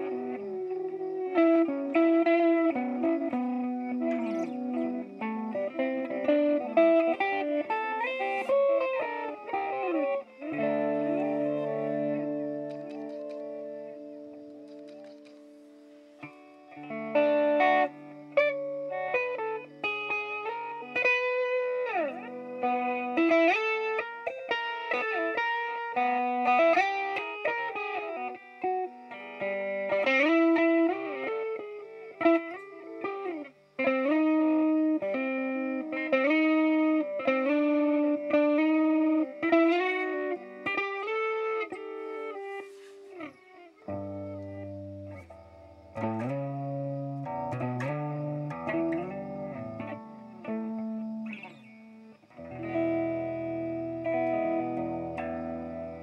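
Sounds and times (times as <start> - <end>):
guitar slide: 0.0 - 56.0.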